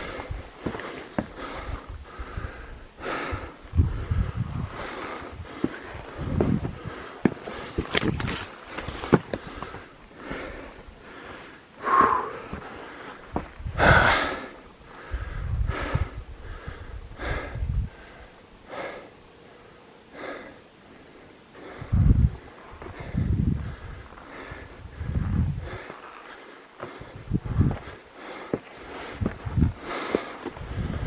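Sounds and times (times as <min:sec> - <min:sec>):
person breathing hard: 0:00.0 - 0:07.9, 0:08.8 - 0:31.0.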